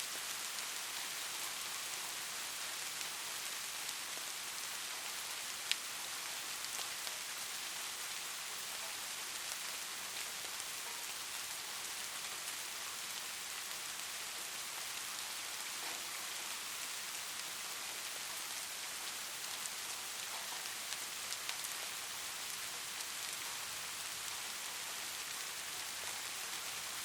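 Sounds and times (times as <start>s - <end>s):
rain pattering on a surface: 0.0s - 27.0s.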